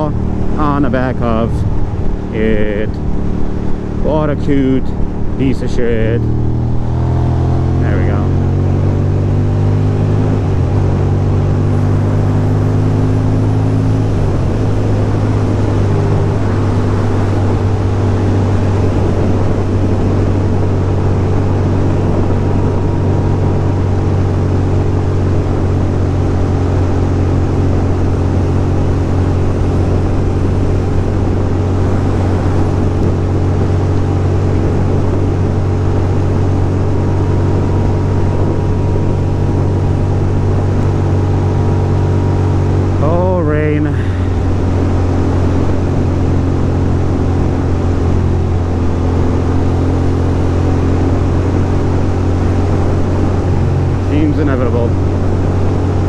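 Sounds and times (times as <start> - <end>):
motorcycle engine running: 0.0 - 56.0
wind rush: 0.0 - 56.0.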